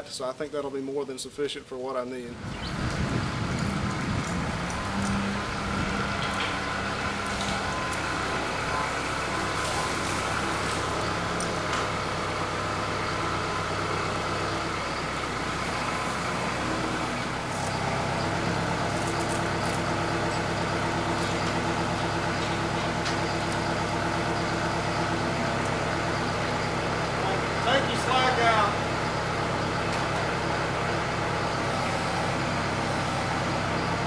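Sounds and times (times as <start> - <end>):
tractor engine running: 2.4 - 34.0.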